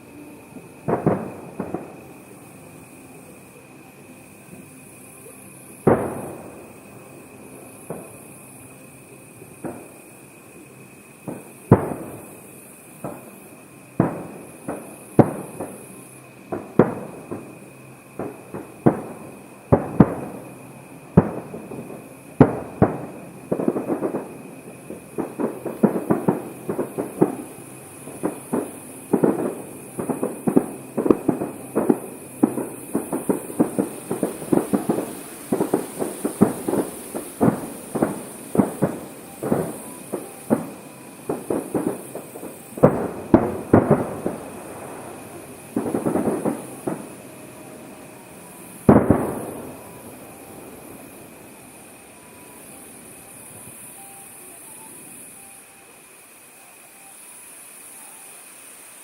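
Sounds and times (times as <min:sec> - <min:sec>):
firework shells bursting: 0:00.0 - 0:55.7.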